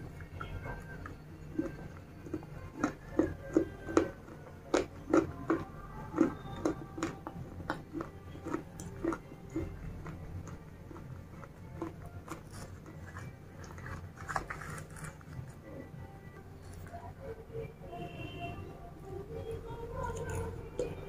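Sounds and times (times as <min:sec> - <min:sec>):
crunching and chewing: 0:00.0 - 0:17.4, 0:19.2 - 0:21.0.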